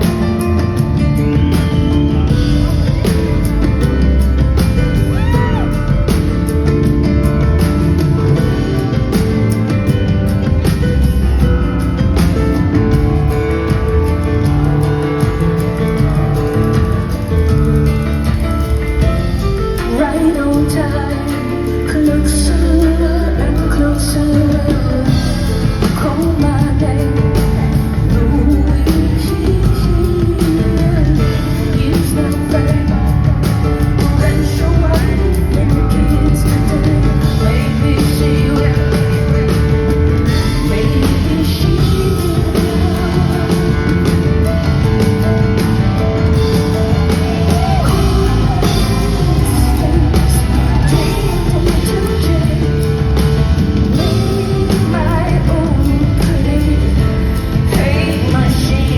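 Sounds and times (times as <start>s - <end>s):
woman singing rock song: 0.0s - 18.0s, 19.1s - 58.9s
loud band accompaniment: 0.0s - 58.9s.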